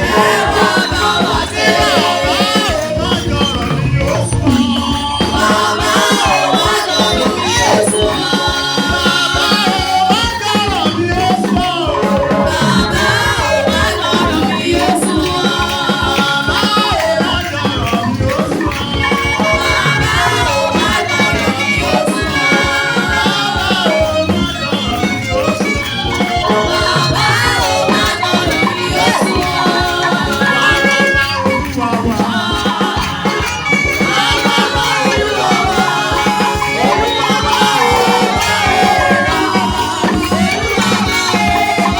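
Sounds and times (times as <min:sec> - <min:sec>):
group singing worship music: 0:00.0 - 0:41.9
steady percussion beat: 0:00.0 - 0:41.9.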